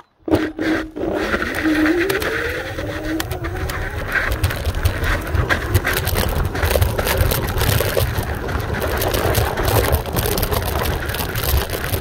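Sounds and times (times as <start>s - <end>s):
tyres rumbling on dirt: 0.2s - 12.0s
wind on microphone: 0.2s - 12.0s
small rattles and knocks: 1.4s - 12.0s.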